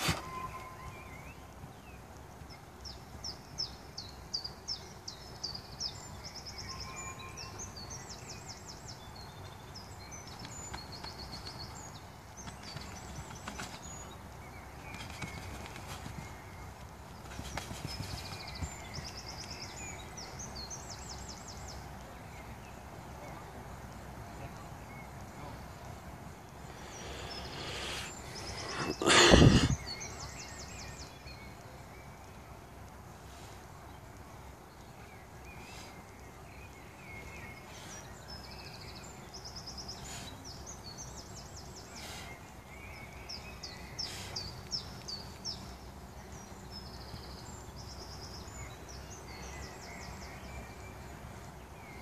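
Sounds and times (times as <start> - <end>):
outdoor background noise: 0.0 - 52.0
small birds chirping trills: 0.0 - 52.0.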